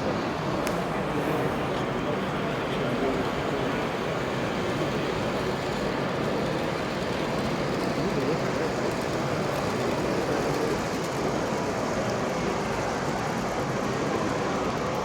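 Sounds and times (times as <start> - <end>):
model trains rumbling: 0.0 - 15.0
murmur of voices: 0.0 - 15.0.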